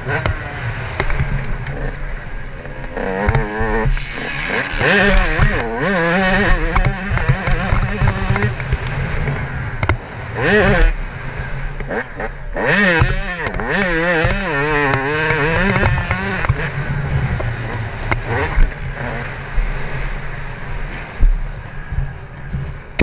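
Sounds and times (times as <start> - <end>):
two-stroke engine revving: 0.0 - 23.0.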